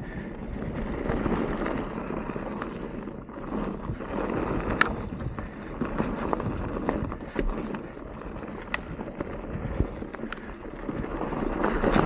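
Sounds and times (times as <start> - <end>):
bike rattling: 0.0 - 12.0
bike tyres rumbling on dirt: 0.0 - 12.0.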